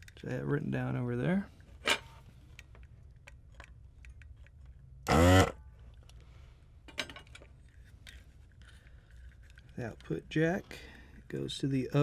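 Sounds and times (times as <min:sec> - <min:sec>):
clicks and rustles of handled wires: 0:00.0 - 0:05.0, 0:05.8 - 0:12.0.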